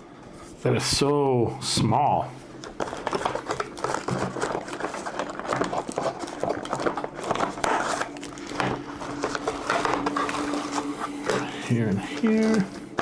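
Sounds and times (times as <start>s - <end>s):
packaging rustling: 2.4s - 13.0s.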